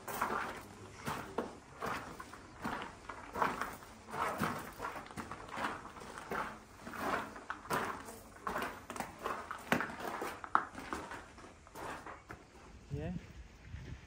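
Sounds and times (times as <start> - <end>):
footsteps crunching on gravel: 0.0 - 13.5.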